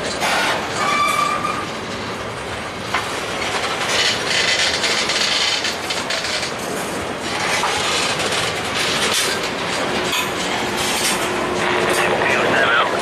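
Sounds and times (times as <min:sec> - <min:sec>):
steel wheels clicking over rail joints: 0:00.0 - 0:12.5
freight train rolling past: 0:00.0 - 0:13.0.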